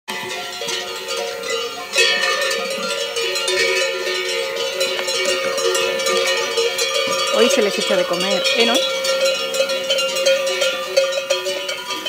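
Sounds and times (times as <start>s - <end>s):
goat bells clanking: 0.1s - 12.0s.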